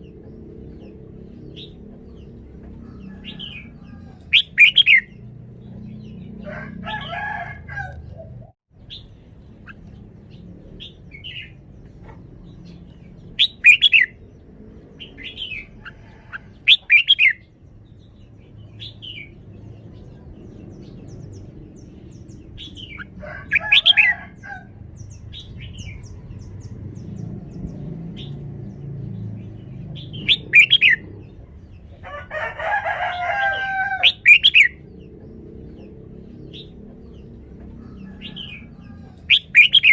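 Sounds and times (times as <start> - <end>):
bird singing: 0.0 - 32.3, 33.0 - 39.9.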